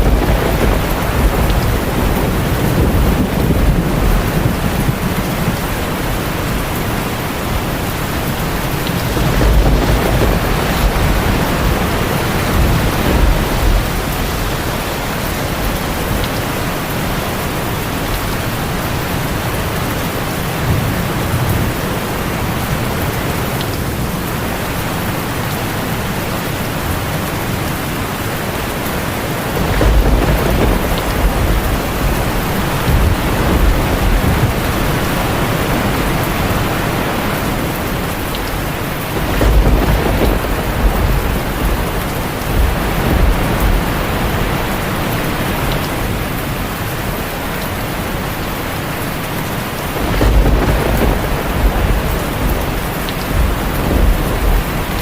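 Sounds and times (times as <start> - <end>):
thunder rumbling: 0.0 - 24.6, 26.4 - 55.0
heavy rain on a tin roof: 0.0 - 55.0.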